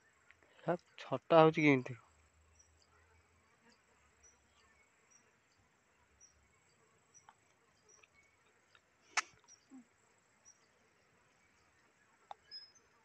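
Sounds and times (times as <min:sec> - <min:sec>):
faint insect chirps: 0:00.0 - 0:13.0.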